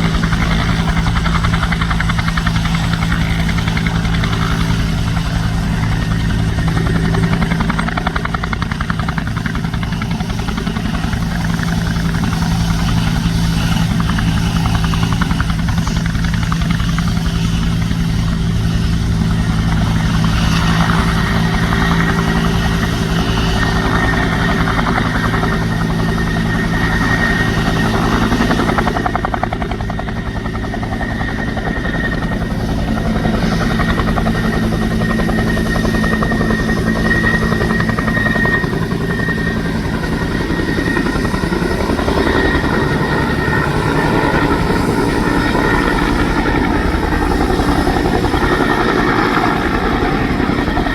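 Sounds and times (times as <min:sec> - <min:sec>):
helicopter engine whine: 0:00.0 - 0:50.9
helicopter rotor beat: 0:00.0 - 0:50.9.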